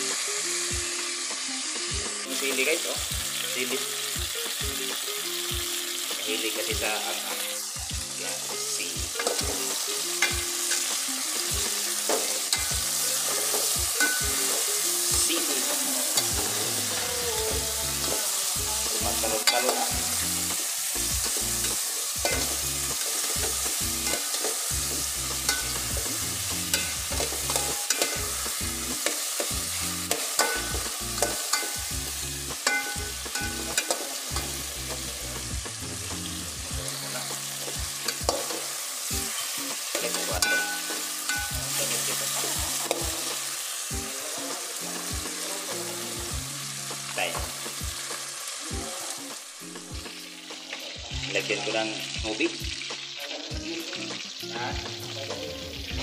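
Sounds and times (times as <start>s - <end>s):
food sizzling in a pot: 0.0s - 56.0s.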